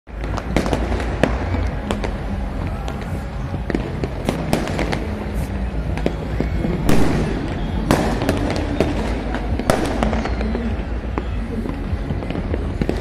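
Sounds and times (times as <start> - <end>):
firecrackers cracking and popping: 0.1 - 13.0
loud firework bangs: 0.1 - 13.0.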